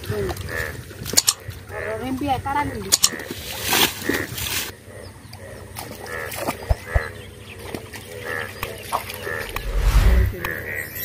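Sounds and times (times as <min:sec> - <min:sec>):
frogs calling: 0:00.3 - 0:09.5.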